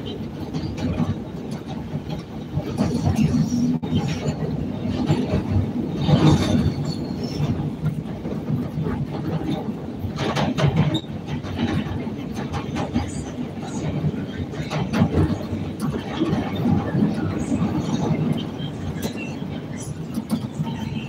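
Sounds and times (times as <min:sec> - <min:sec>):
train clattering: 0:00.0 - 0:21.0
train wheels rumbling on rail: 0:00.0 - 0:21.0.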